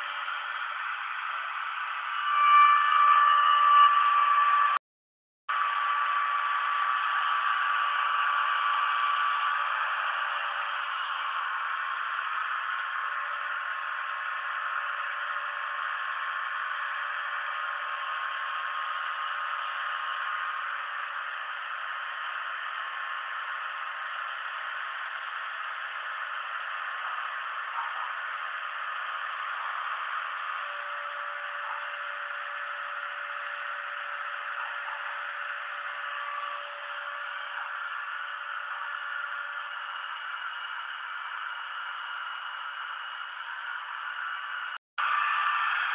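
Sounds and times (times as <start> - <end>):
steady machine whine: 0.0 - 4.8, 5.5 - 45.9.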